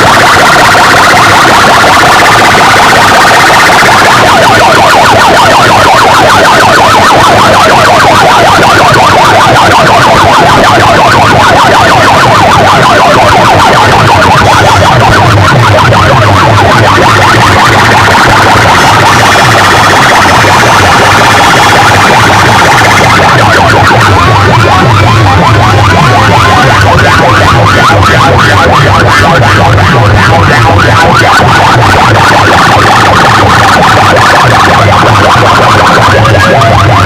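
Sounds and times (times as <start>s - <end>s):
distorted warbling siren-like tone: 0.0s - 37.0s.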